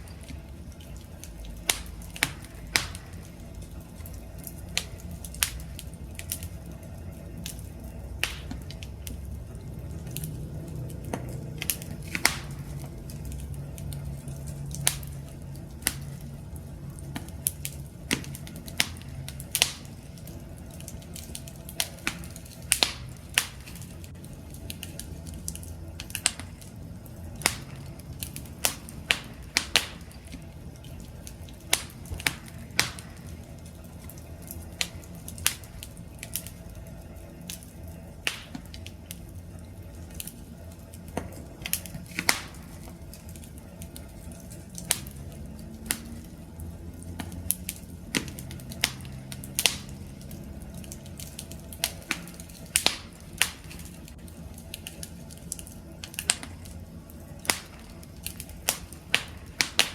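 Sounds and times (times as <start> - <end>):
wood popping and snapping: 0.0 - 39.2, 40.0 - 46.4, 47.0 - 59.9
campfire crackling: 0.0 - 59.9
rumble of flame: 0.0 - 59.9.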